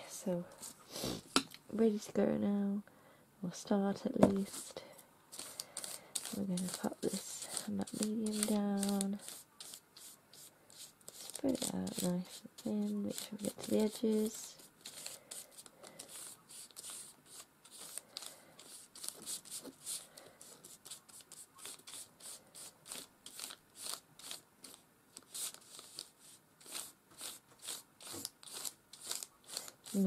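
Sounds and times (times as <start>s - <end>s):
paintbrush brushing over paper: 0.4s - 1.3s, 4.3s - 30.0s.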